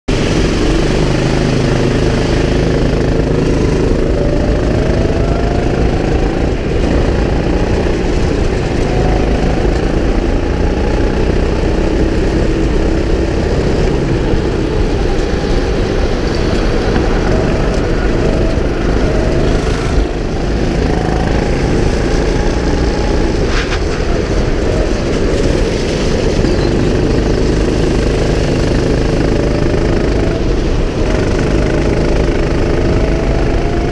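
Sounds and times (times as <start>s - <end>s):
go-kart engine running hard: 0.1s - 33.9s.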